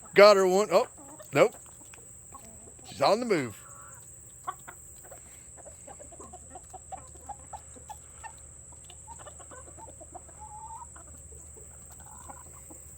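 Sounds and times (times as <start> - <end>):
hens clucking: 0.0 - 12.9.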